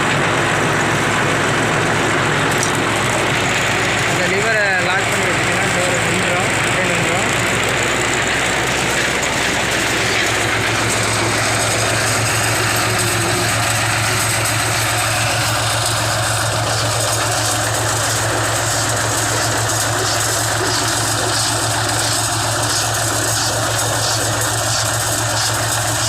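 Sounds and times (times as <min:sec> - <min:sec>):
straw baler clattering: 0:00.0 - 0:26.0
tractor engine humming: 0:00.0 - 0:26.0.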